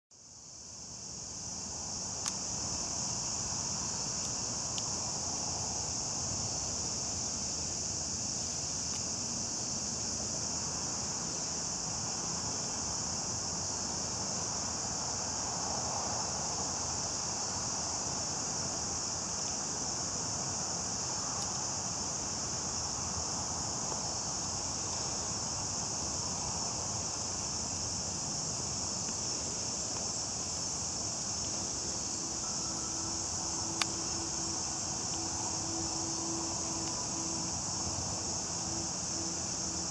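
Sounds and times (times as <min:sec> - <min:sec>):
insects singing: 0:00.4 - 0:39.9.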